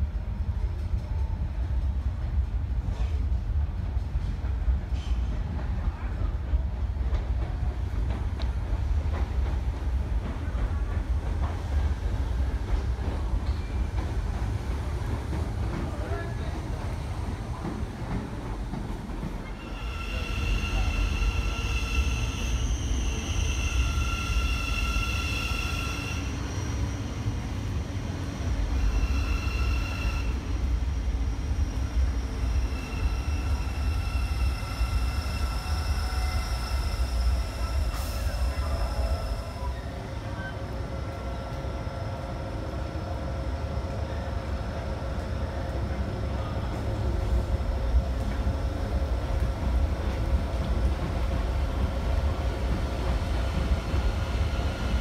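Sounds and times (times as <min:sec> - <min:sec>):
train wheels rumbling on track: 0:00.0 - 0:55.0
high electric train whine: 0:06.2 - 0:55.0.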